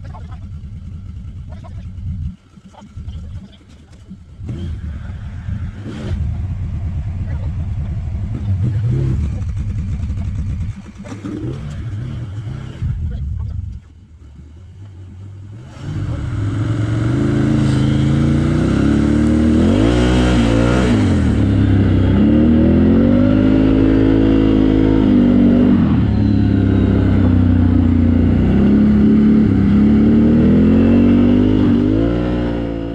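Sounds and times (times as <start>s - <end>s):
atv engine revving: 0.0s - 32.9s.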